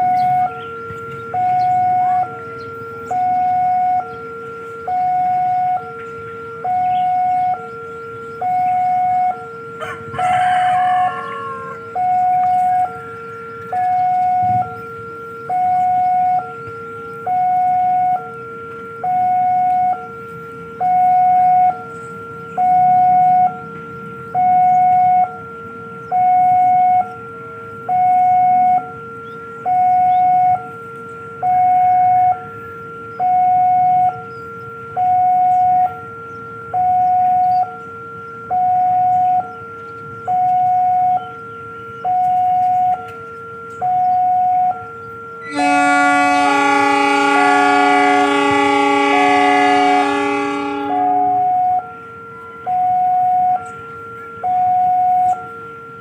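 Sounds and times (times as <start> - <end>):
locomotive horn: 0.0 - 23.7, 24.4 - 29.2, 29.8 - 39.8, 42.2 - 55.5
level crossing two-tone alarm: 0.0 - 55.8.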